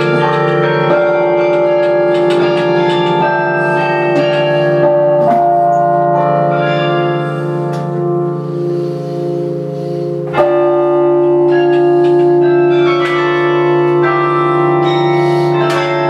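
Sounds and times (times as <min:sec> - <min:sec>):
carillon bells ringing: 0:00.0 - 0:16.0.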